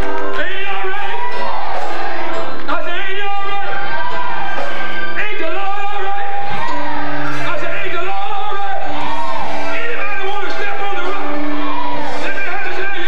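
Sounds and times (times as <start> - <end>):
man singing into a microphone: 0.0 - 1.8, 2.7 - 13.0
instrumental backing music: 0.0 - 13.0.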